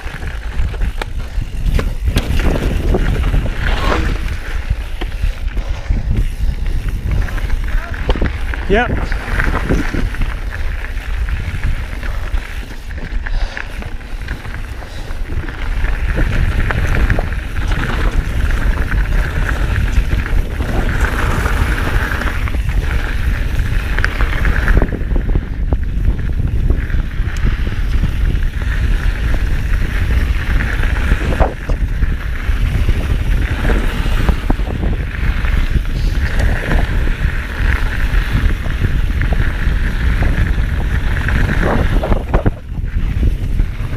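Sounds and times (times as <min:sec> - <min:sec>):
bike knocks and rattles: 0:00.0 - 0:43.9
bike tyres rolling on dirt: 0:00.0 - 0:43.9
wind buffeting microphone: 0:00.0 - 0:43.9.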